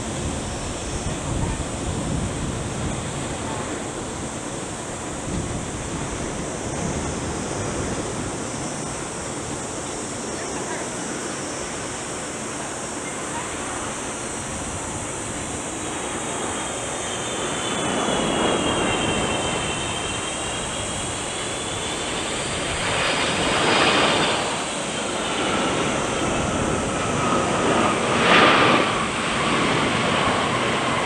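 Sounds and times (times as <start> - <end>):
jet engines passing: 0.0 - 31.0.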